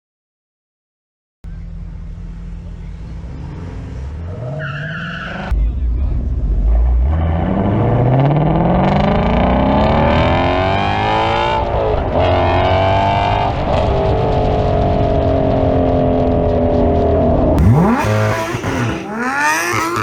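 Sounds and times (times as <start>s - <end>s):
car engine accelerating hard: 1.5s - 20.0s.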